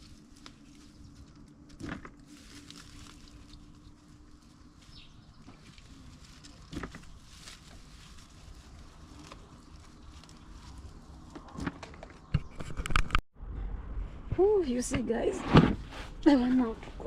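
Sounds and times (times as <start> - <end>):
faint outdoor background: 0.0 - 17.0
low steady hum: 0.0 - 17.0.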